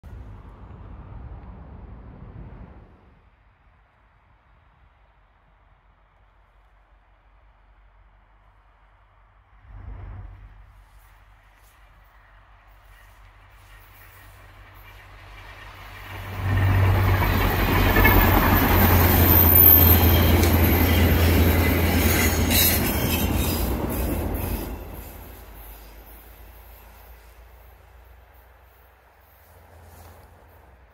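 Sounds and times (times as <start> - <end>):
diesel locomotive engine drone: 0.0 - 3.5, 5.5 - 30.9.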